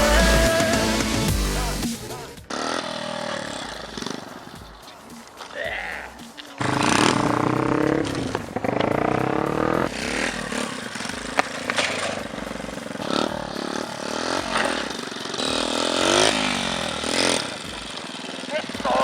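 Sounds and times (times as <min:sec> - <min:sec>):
small engine revving: 0:00.0 - 0:19.0.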